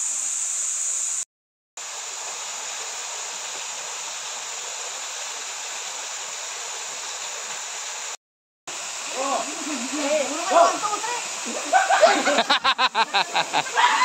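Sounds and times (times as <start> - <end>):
waterfall pouring into pool: 1.8 - 14.0.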